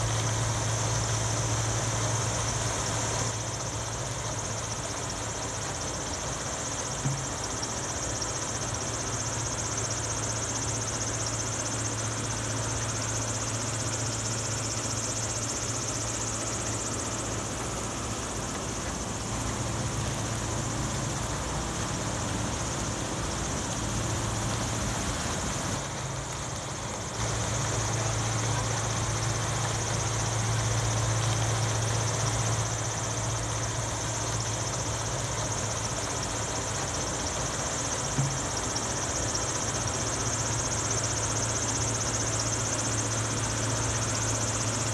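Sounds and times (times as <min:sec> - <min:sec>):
high-pitched machine whine: 0:00.0 - 0:44.9
low engine hum: 0:00.0 - 0:44.9.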